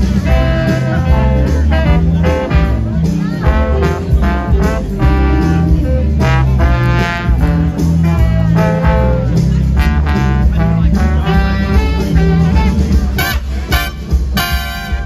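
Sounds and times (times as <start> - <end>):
brass band playing jazz: 0.0 - 15.0.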